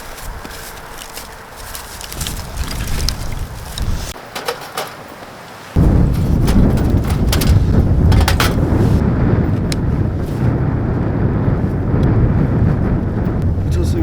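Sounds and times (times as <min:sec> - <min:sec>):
strong gusty wind on microphone: 0:00.0 - 0:04.3, 0:05.4 - 0:14.0.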